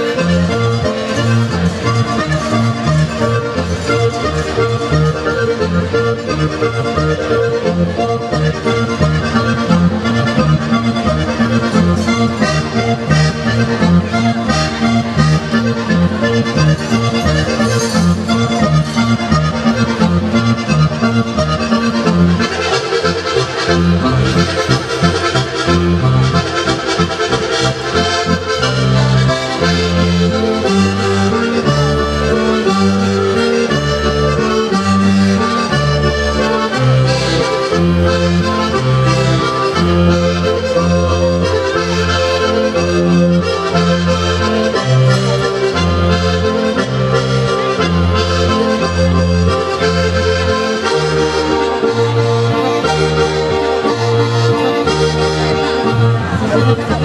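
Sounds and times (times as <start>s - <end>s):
button accordion dance tune: 0.0s - 57.0s.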